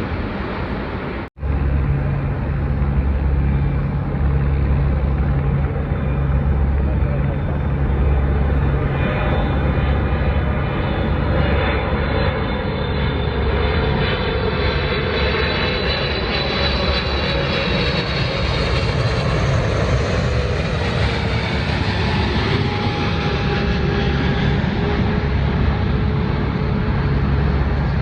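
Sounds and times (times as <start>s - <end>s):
jet airliner engine roar: 0.0s - 28.0s.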